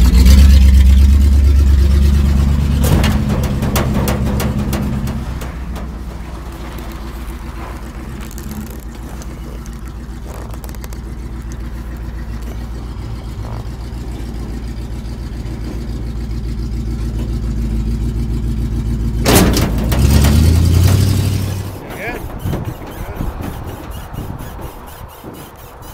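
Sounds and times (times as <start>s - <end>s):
car engine running: 0.0s - 25.9s.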